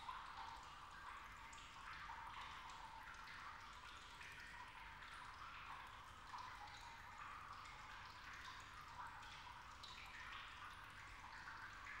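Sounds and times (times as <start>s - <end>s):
water dripping and trickling: 0.0s - 12.0s.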